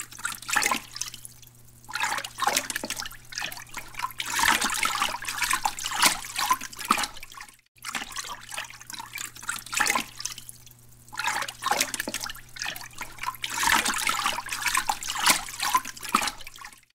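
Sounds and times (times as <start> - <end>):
water splashing and sloshing: 0.0 - 16.9.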